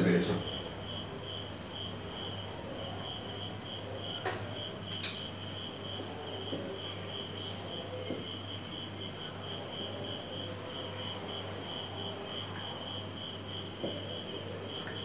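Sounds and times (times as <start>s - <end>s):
insect chirping: 0.2s - 15.0s.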